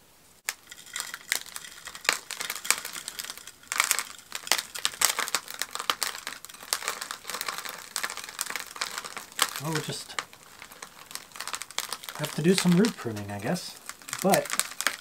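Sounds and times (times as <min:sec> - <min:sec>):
roots and soil crackling: 0:00.4 - 0:15.0.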